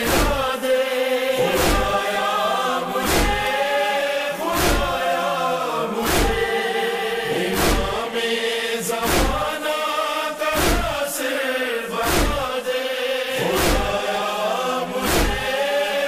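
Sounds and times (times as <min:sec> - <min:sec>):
voices chanting in unison: 0:00.0 - 0:16.0.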